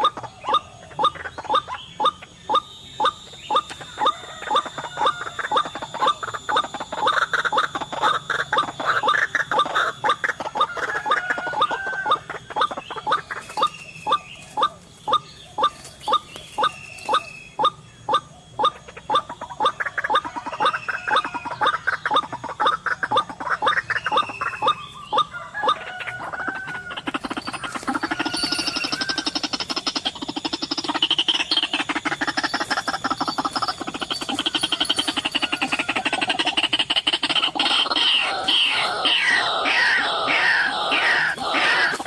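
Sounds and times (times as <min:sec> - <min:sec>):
bird calling sharp repeated notes: 0:00.0 - 0:42.0.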